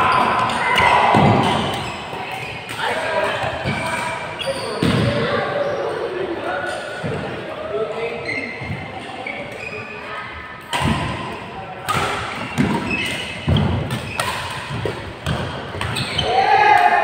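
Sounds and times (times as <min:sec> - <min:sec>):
background chatter in a hall: 0:00.0 - 0:17.0.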